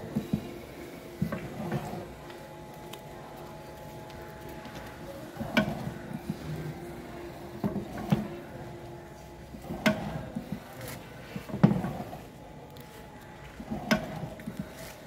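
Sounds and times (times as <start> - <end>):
faint motor hum: 0.0 - 15.0.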